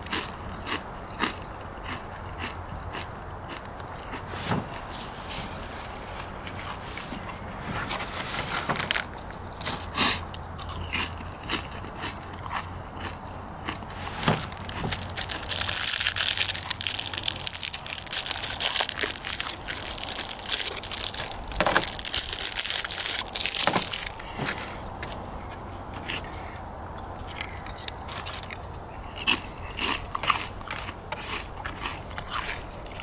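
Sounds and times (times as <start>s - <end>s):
person chewing crunchy chips: 0.0s - 24.8s, 27.2s - 33.0s.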